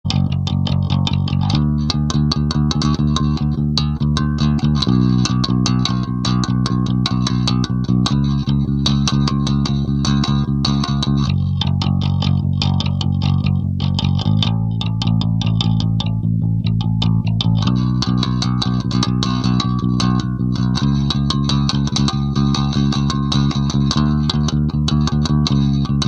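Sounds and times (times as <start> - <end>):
clean electric bass playing: 0.0 - 26.0.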